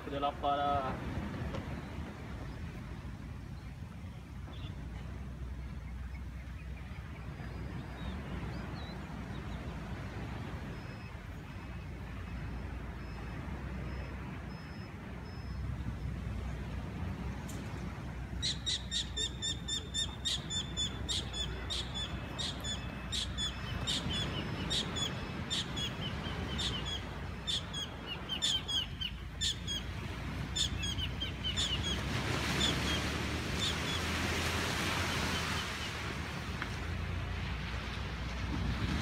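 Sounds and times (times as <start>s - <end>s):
wind and surf rushing: 0.0s - 39.0s.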